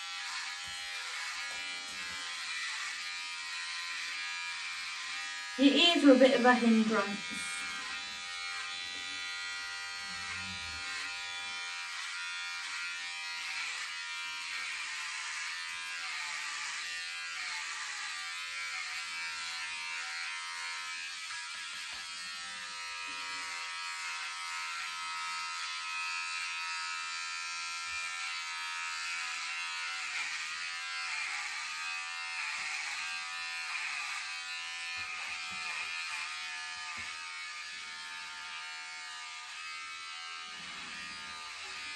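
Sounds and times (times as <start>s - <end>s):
electric hair clipper buzzing: 0.0s - 41.9s.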